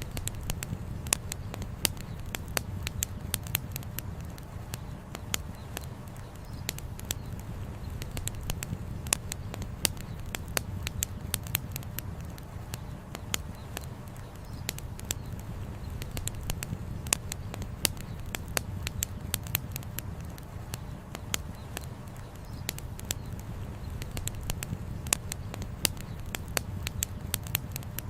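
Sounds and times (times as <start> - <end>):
campfire crackling: 0.0 - 28.0
firewood popping: 0.0 - 28.0
low fire rumble: 0.0 - 28.0.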